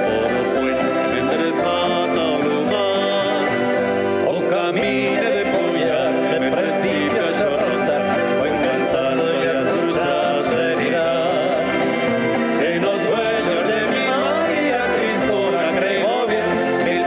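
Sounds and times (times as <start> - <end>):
double bass: 0.0 - 17.0
plucked strings: 0.0 - 17.0
strummed guitars: 0.0 - 17.0.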